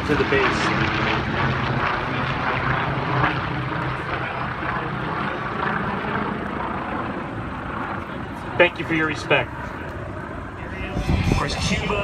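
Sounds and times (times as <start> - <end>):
propeller airplanes droning overhead: 0.0 - 12.0.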